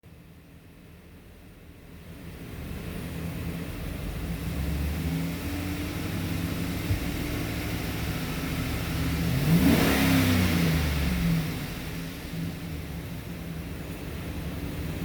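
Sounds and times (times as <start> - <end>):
car engine idling and revving: 0.1 - 15.0.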